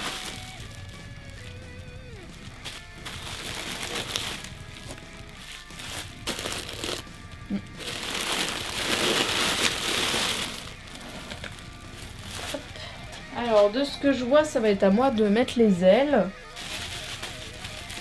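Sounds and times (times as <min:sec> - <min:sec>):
plastic packaging crinkling: 0:00.0 - 0:12.9, 0:16.5 - 0:18.0
soft background music: 0:00.0 - 0:18.0.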